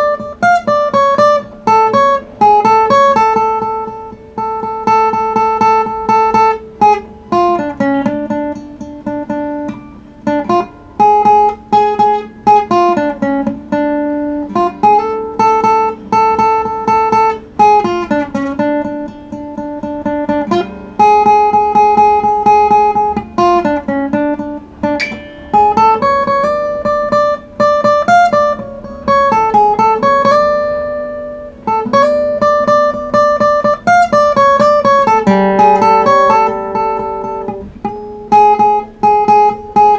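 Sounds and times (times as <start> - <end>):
acoustic guitar melody: 0.0 - 39.9.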